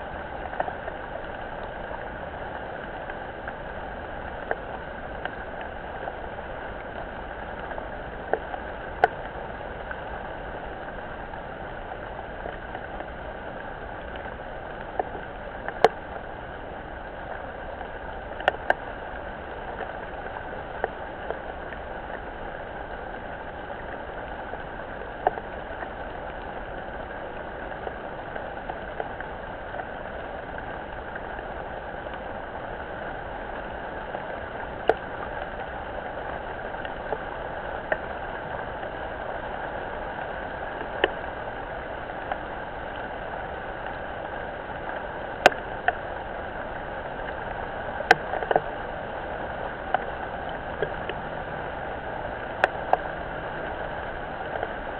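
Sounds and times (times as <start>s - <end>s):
rain on a pond: 0.0s - 54.9s
sharp taps of raindrops: 0.2s - 16.6s, 17.2s - 51.6s, 52.3s - 54.8s.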